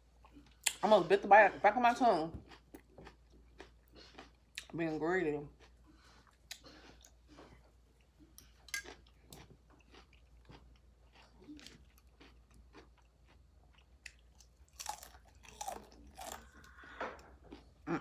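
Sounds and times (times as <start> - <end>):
close-up chewing of food: 2.4 - 4.8, 5.5 - 18.0.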